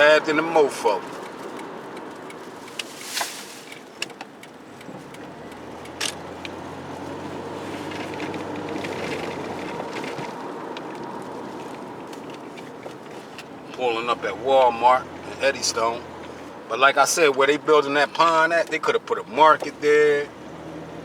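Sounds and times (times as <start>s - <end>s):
car tyre and engine hum: 0.0s - 21.0s.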